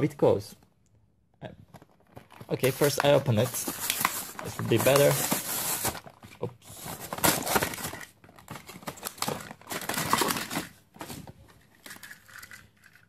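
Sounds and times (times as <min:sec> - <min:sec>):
packaging crinkling: 0:01.7 - 0:13.0.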